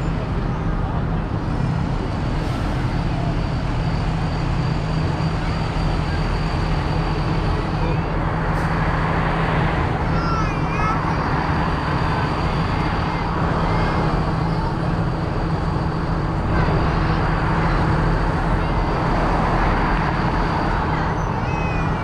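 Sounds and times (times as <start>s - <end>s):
road noise: 0.0s - 22.0s
tractor engines droning: 0.0s - 22.0s.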